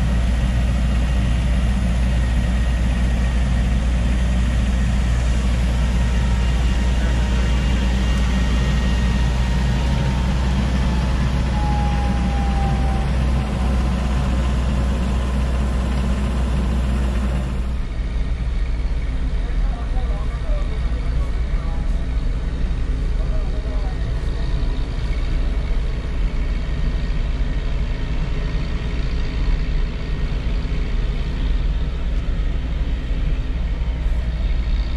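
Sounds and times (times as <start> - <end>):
steam locomotive rumble and hiss: 0.0 - 34.9.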